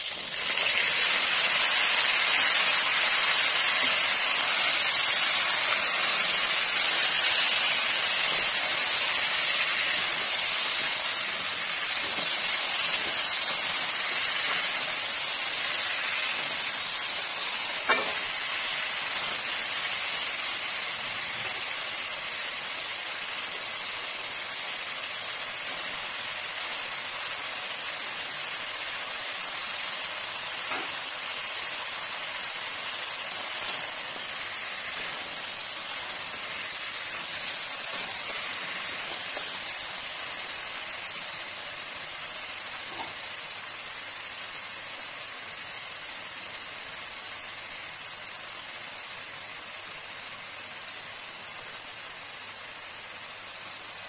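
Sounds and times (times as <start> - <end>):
potatoes sizzling in oil: 0.0 - 54.0.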